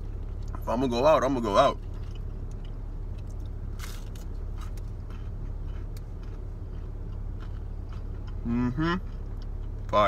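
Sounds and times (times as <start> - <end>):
car engine idling: 0.0 - 10.0
crunchy chewing: 1.8 - 10.0.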